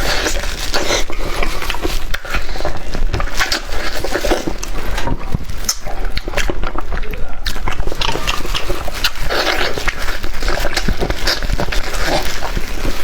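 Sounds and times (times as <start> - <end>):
wet chewing and lip smacking: 0.0 - 13.0.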